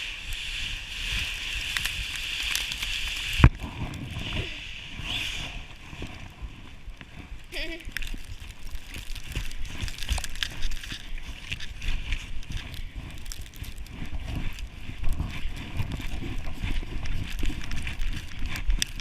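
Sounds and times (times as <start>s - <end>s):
movement over snow: 0.0s - 19.0s.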